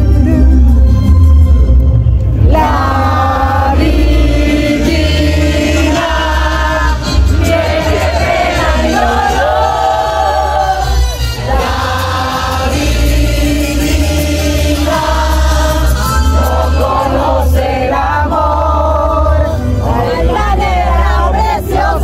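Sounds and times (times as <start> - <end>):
strong bass line: 0.0 - 22.0.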